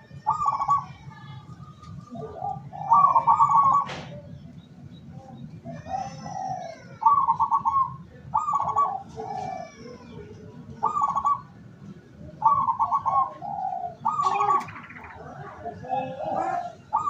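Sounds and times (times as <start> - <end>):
dove cooing: 0.0 - 1.0, 2.0 - 4.3, 5.6 - 11.6, 12.2 - 17.0.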